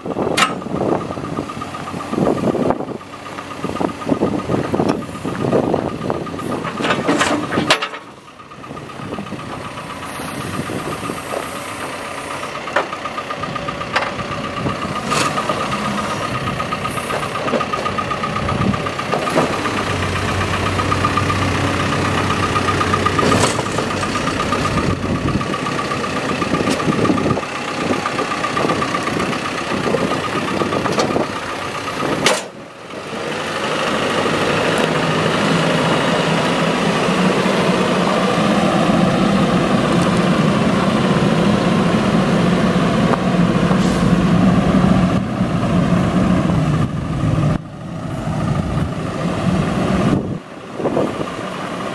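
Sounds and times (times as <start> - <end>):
backhoe driving: 0.0 - 51.9
diesel engine idling: 0.0 - 51.9.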